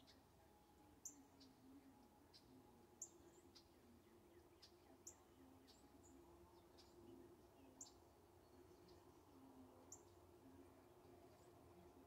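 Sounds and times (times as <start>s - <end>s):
faint low hum: 0.0s - 12.0s
songbird chirps: 0.0s - 12.0s.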